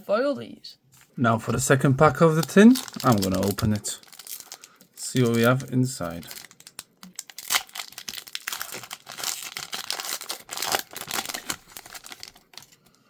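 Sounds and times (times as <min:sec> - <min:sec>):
foil wrapper tearing and crinkling: 0:02.3 - 0:12.9.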